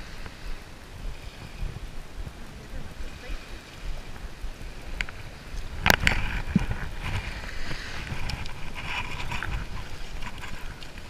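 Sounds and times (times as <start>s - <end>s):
small waves on sandy shore: 0.0s - 11.0s
wind on microphone: 0.0s - 11.0s.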